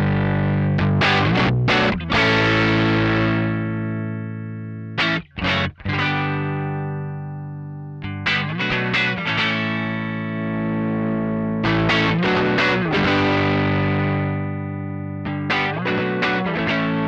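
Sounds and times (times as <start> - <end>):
overdriven electric guitar strumming: 0.0 - 17.0.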